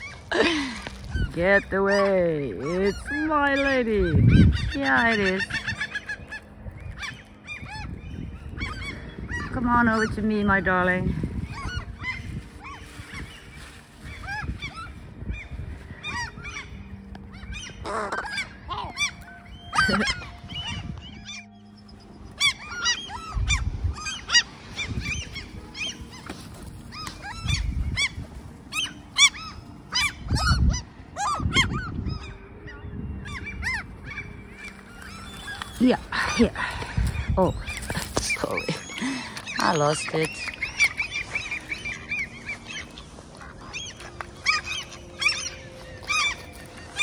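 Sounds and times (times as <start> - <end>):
gulls calling: 0.0 - 47.0.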